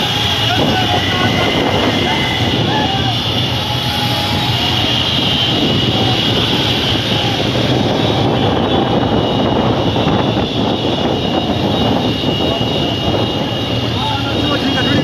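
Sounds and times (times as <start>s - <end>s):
high whine: 0.0s - 15.0s
motorcycles roaring: 0.0s - 15.0s.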